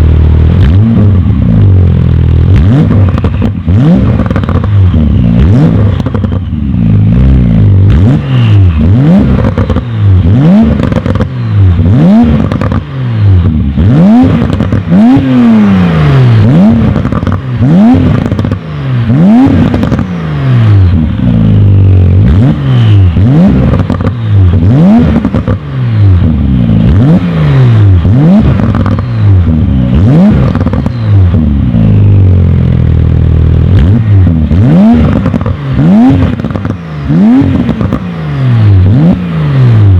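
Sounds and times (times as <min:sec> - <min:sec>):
exhaust crackles and pops: 0:00.0 - 0:06.4, 0:08.8 - 0:13.6, 0:14.2 - 0:15.4, 0:16.4 - 0:20.2, 0:20.8 - 0:25.6, 0:28.0 - 0:39.2
car engine revving: 0:00.0 - 0:39.9.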